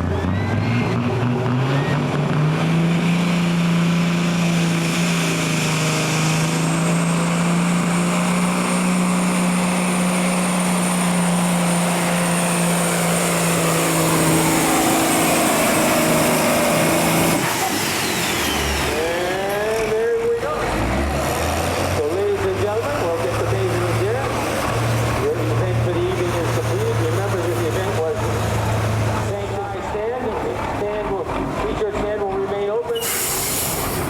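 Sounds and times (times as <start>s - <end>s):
engine at full throttle: 0.0s - 32.6s.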